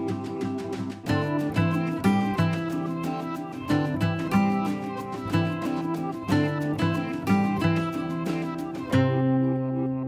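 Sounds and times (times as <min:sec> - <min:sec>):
calm plucked instrumental music: 0:00.0 - 0:10.0.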